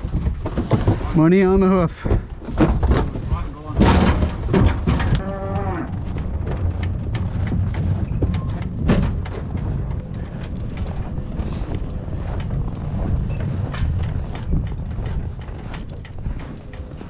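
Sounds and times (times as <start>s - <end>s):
trailer knocks and clatter: 0.0s - 17.0s
truck engine rumble: 3.1s - 17.0s.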